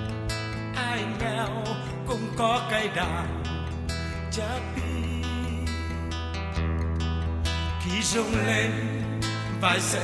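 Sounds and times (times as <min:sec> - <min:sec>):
plucked guitar: 0:00.0 - 0:10.0
steady bass: 0:00.0 - 0:10.0.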